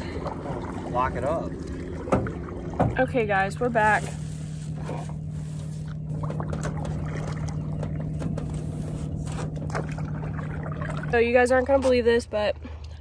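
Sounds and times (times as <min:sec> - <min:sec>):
steady low hum: 0:00.0 - 0:13.0
water splashing and dripping: 0:00.0 - 0:13.0.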